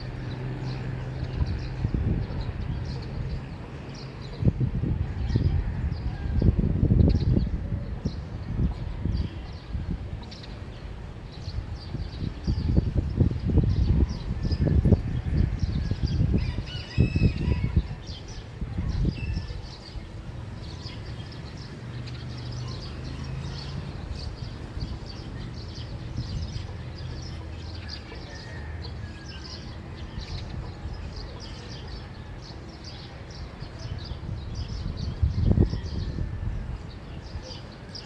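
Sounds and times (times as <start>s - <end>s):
small birds chirping: 0.0s - 36.1s.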